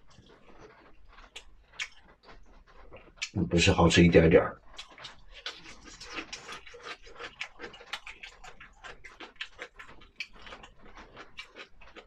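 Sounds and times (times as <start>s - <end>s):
person chewing and smacking food: 0.1s - 3.4s, 4.6s - 12.0s.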